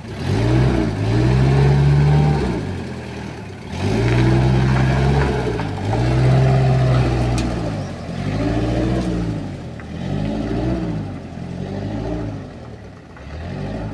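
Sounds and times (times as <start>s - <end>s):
diesel engine revving: 0.0s - 13.9s.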